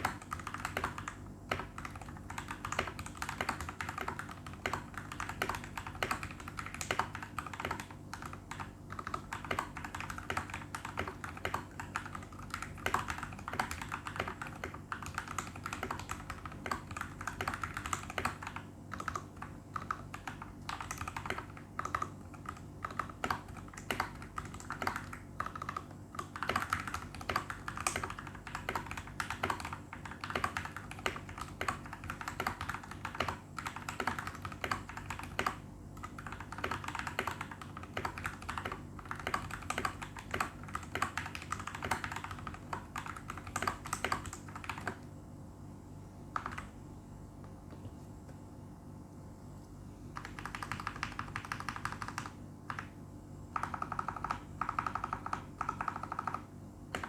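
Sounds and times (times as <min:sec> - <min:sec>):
mechanical keyboard typing: 0:00.0 - 0:45.1, 0:46.4 - 0:46.8, 0:50.2 - 0:57.0.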